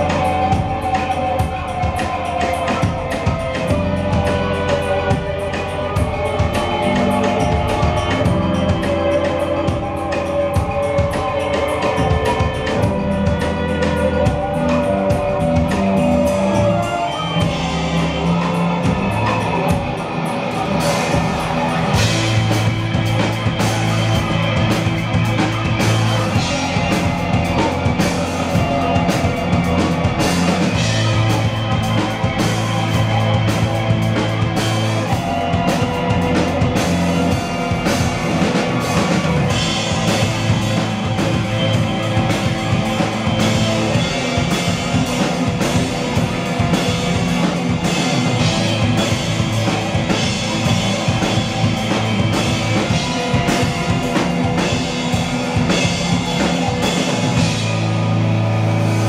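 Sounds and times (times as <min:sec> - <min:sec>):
electric guitar: 0:00.0 - 0:59.0
keyboard: 0:00.0 - 0:59.0
low bass notes: 0:00.0 - 0:59.0.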